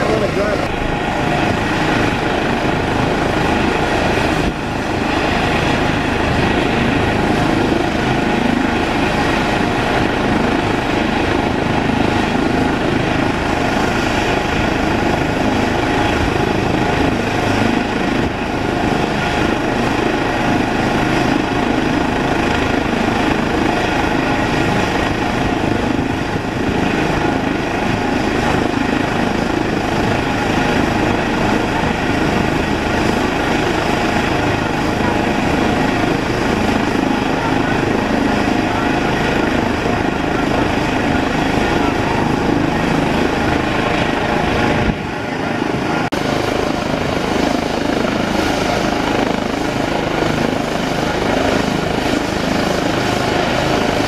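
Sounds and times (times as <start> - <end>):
helicopter rotor rushing: 0.0 - 54.0
helicopter turbine whine: 0.0 - 54.0.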